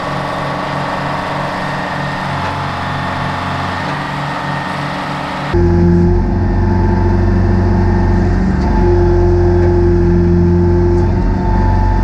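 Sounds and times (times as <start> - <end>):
excavator diesel engine running: 0.0 - 12.0
steady high tone: 0.0 - 12.0.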